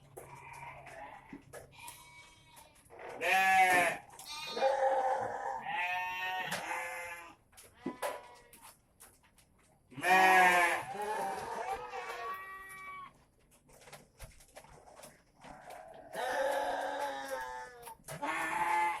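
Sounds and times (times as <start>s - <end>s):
goats bleating: 0.2s - 8.7s, 10.0s - 13.2s, 15.4s - 19.0s.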